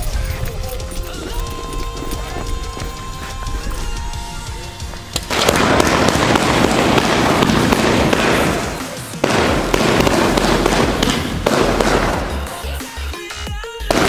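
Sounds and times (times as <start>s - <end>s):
firework battery crackling: 0.0s - 14.0s.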